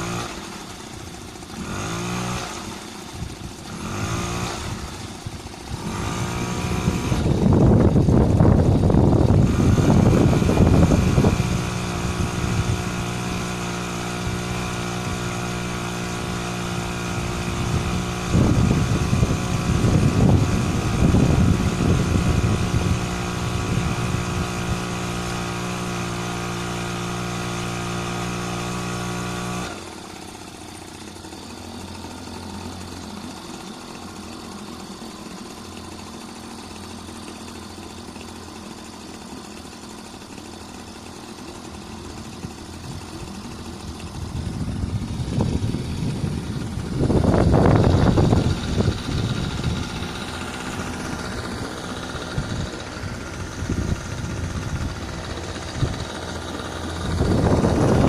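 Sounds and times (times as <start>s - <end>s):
loud rough noise: 0.0s - 35.6s, 41.3s - 58.0s
outboard motor running: 0.0s - 58.0s.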